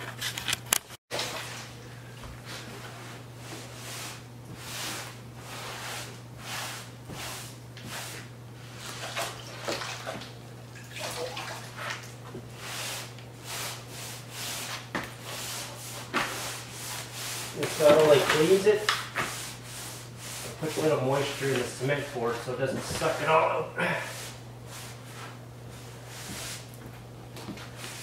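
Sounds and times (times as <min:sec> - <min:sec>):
steady low hum: 0:01.1 - 0:28.0.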